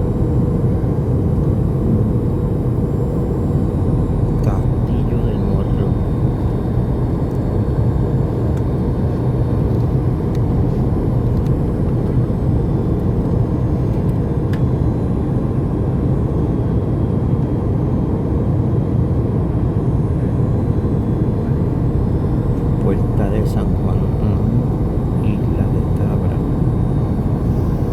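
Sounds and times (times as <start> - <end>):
airliner cabin drone: 0.0 - 27.9.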